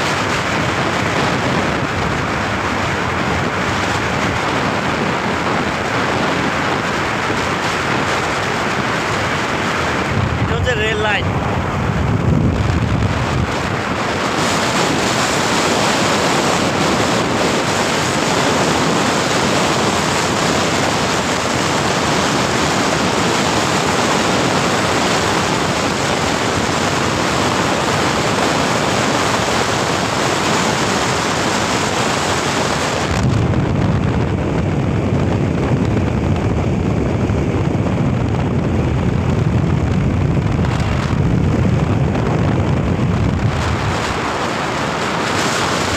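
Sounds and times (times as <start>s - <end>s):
vehicle road noise: 0.0s - 45.9s
wind rushing over microphone: 0.0s - 45.9s.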